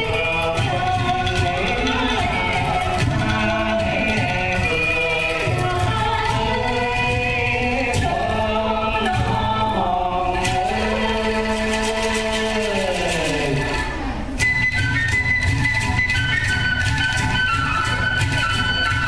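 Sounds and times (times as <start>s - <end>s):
traditional ensemble music: 0.0s - 19.0s.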